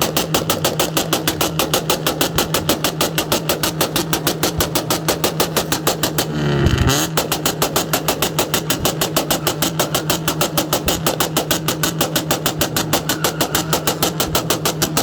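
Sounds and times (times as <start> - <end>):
engine idling with loping beat: 0.0 - 15.0
engine revving: 0.0 - 15.0.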